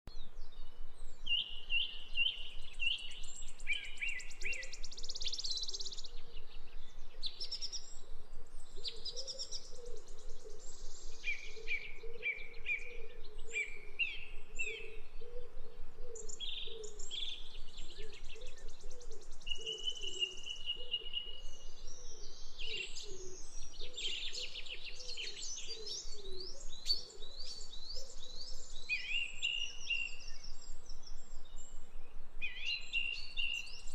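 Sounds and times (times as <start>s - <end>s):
birds chirping and trilling: 0.2s - 33.9s.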